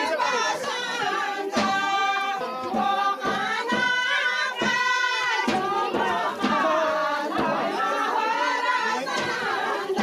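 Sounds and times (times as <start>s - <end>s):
group singing held notes: 0.0s - 10.0s
thumps marking the beat: 0.0s - 10.0s.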